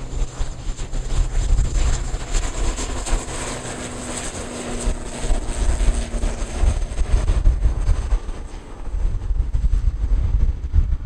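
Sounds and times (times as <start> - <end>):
propeller aircraft engines droning: 0.0 - 11.0
wind on microphone: 0.0 - 11.0.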